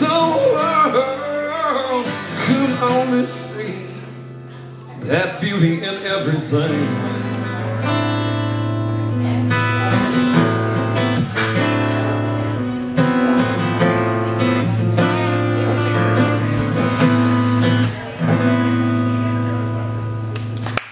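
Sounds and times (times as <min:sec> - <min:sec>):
acoustic guitar strumming chords: 0:00.0 - 0:20.6.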